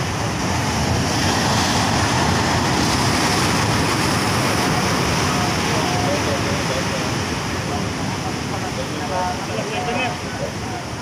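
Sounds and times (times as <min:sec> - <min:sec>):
sea surf breaking on rocks: 0:00.0 - 0:11.0.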